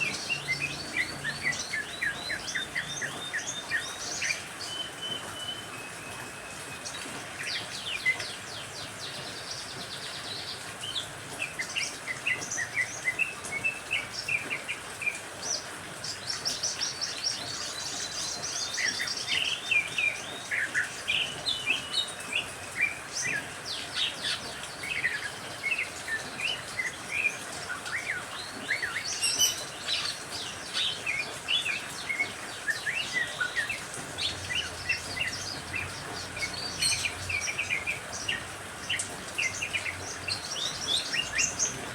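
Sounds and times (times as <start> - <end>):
songbirds twittering: 0.0 - 41.9
steady rain-like hiss: 0.0 - 41.9.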